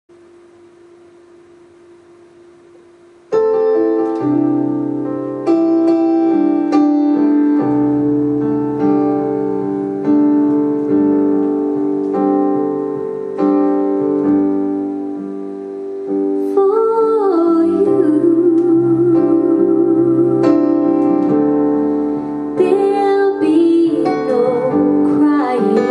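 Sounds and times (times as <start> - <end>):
faint steady hum: 0.1 - 25.9
piano chords: 0.1 - 25.9.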